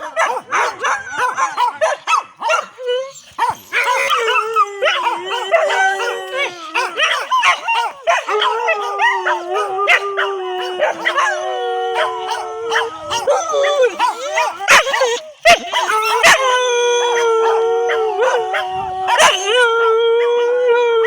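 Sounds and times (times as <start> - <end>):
dogs barking and yipping: 0.0 - 19.7
dogs howling: 0.0 - 21.0.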